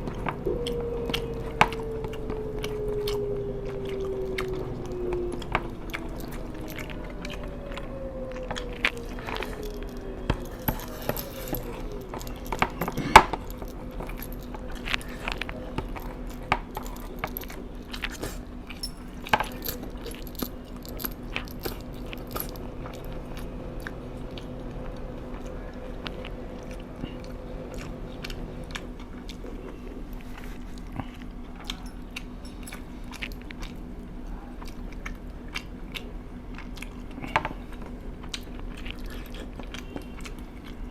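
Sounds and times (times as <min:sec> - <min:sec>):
chewing crunchy fried food: 0:00.0 - 0:40.9
faint steady hum: 0:00.0 - 0:40.9.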